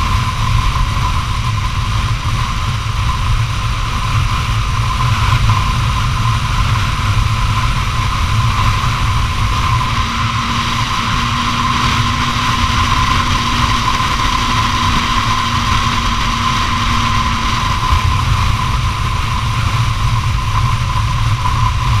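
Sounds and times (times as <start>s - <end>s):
motorcycle engine cruising: 0.0s - 22.0s
wind rumble on microphone: 0.0s - 22.0s.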